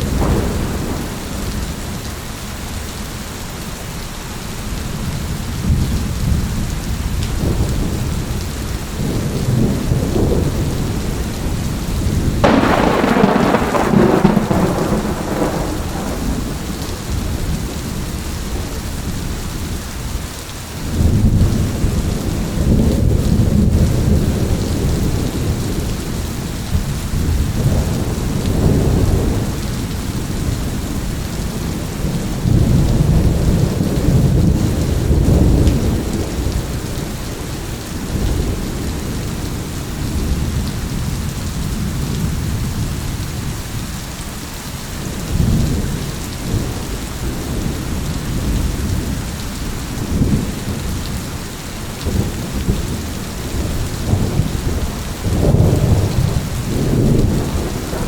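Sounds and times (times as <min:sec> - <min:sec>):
thunder rumbling: 0:00.0 - 0:02.1, 0:05.0 - 0:20.1, 0:20.8 - 0:43.6, 0:45.0 - 0:58.0
steady rain falling: 0:00.0 - 0:58.0.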